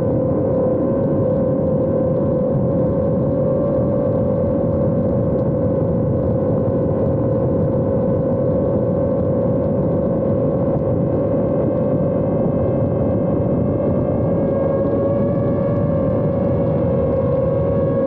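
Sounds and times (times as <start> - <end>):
drone motor whine: 0.0 - 18.0
wind noise on microphone: 0.0 - 18.0.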